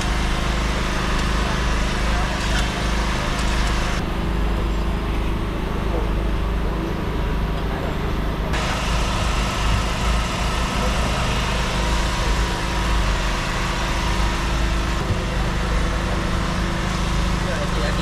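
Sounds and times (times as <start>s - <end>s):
engine-like hum: 0.0s - 18.0s
street background noise: 0.0s - 18.0s.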